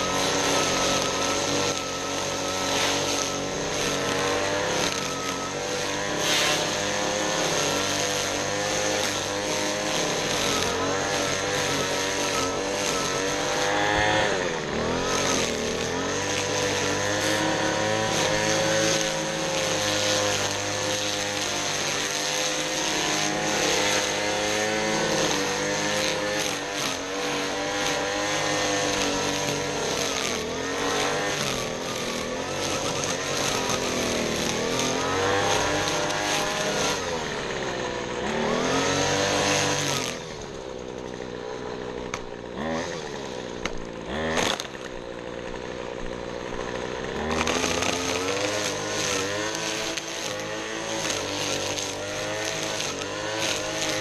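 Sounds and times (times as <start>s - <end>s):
small petrol engine running: 0.0s - 54.0s.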